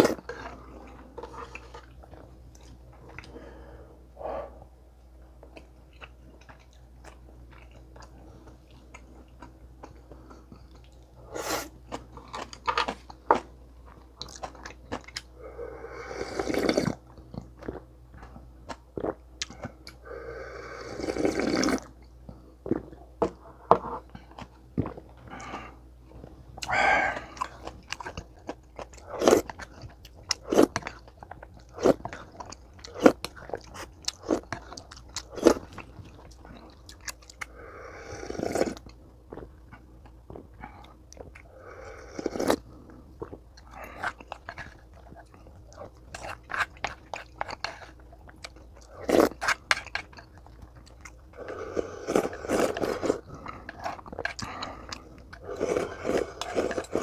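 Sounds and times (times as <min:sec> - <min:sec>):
chewing and crunching food: 0:00.0 - 0:03.8, 0:05.0 - 0:57.0.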